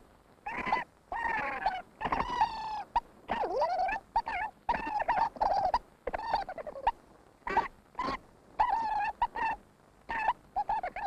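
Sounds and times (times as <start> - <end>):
squeaky chattering calls: 0.5 - 11.0.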